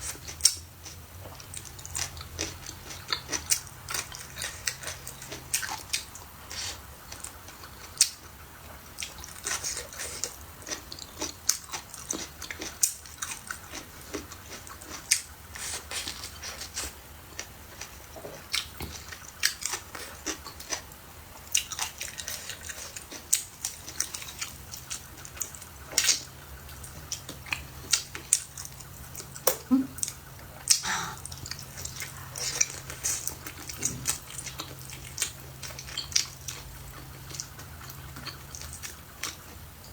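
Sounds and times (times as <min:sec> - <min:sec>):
chewing food: 0:00.0 - 0:39.9.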